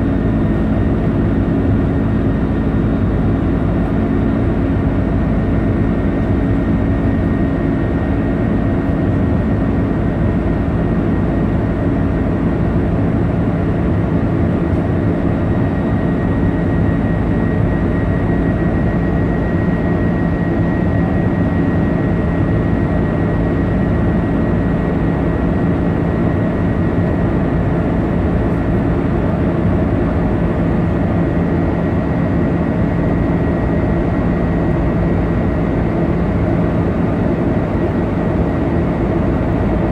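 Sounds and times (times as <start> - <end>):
jet engine and airflow drone: 0.0 - 39.9.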